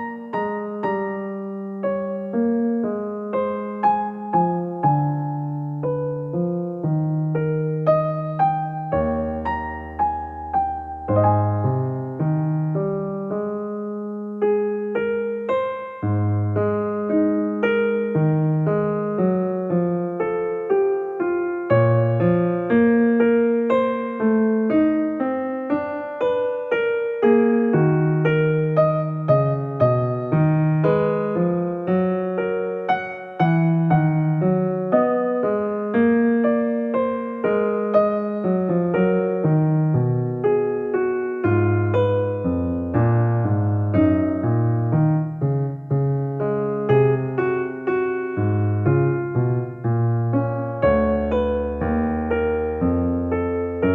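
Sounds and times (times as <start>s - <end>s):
electric piano melody: 0.0s - 53.9s.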